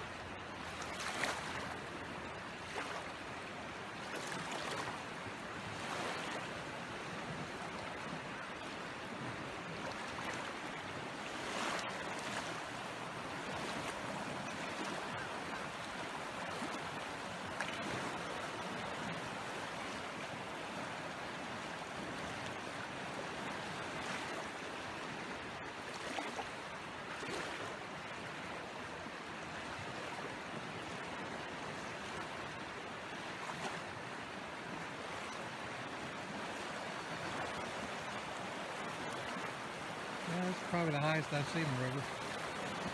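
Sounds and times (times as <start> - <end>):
river rushing in flood: 0.0 - 42.9.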